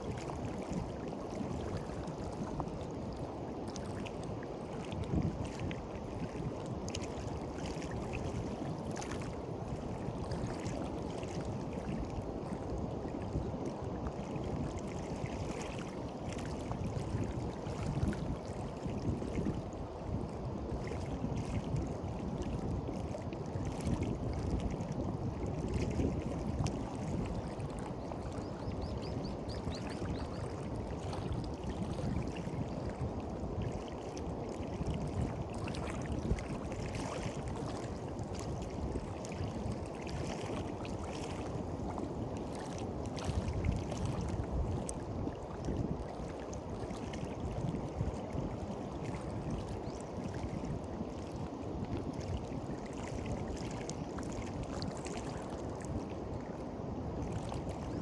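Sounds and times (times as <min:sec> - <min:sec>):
small waves lapping at shore: 0:00.0 - 0:58.0.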